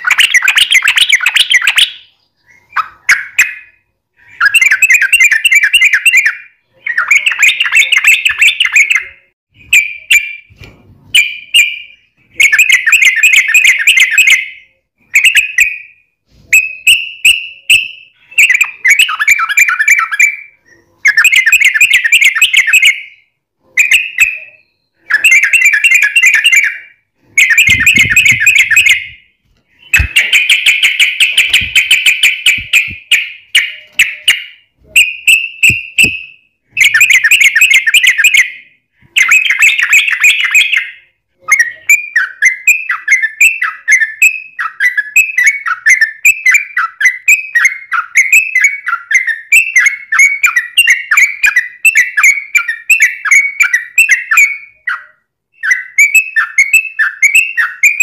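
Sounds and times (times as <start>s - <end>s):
bulbul singing: 0.0s - 10.6s, 11.2s - 58.0s.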